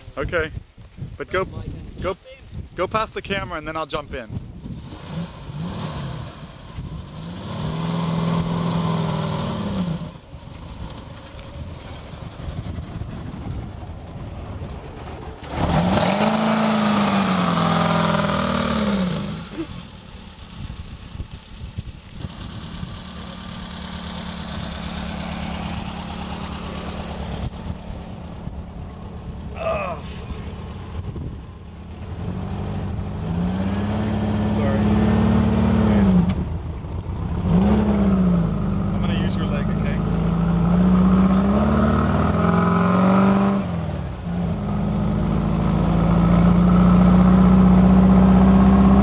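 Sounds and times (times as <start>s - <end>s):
buggy engine revving: 2.8s - 49.0s.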